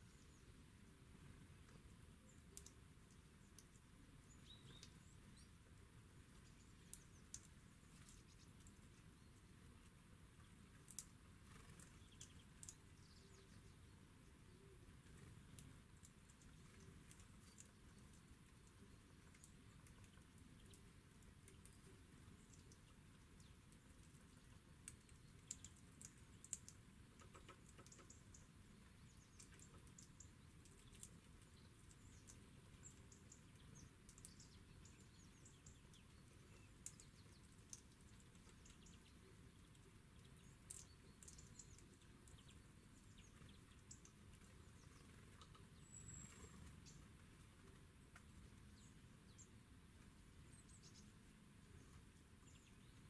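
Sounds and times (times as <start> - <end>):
birds pecking seed on wood: 1.6 - 5.4, 6.2 - 13.6, 14.6 - 48.8.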